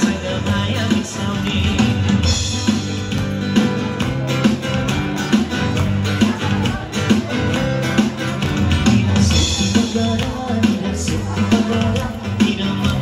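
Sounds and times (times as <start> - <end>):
song with strummed guitar: 0.0 - 13.0.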